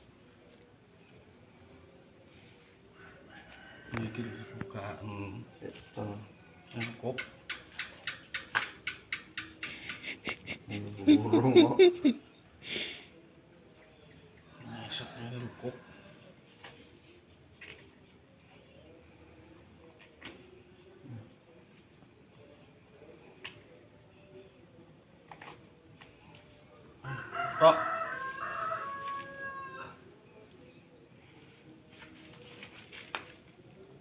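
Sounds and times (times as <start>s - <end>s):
high insect chirp: 0.0s - 34.0s.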